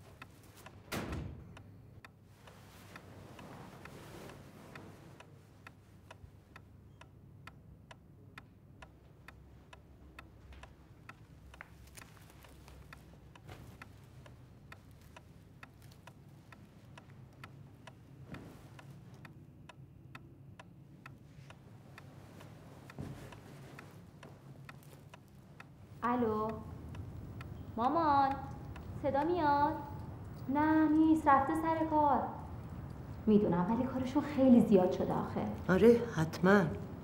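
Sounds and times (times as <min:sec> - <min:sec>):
clock ticking: 0:00.0 - 0:00.8, 0:01.4 - 0:37.0
low steady hum: 0:00.0 - 0:37.0.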